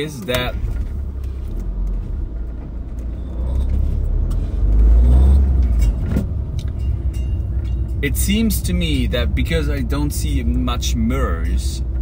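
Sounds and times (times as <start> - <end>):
low rumble: 0.4 - 12.0.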